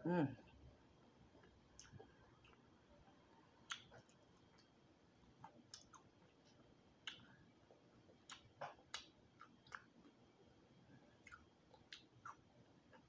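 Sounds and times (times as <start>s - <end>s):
crispy food chewing crackles: 1.1s - 13.0s.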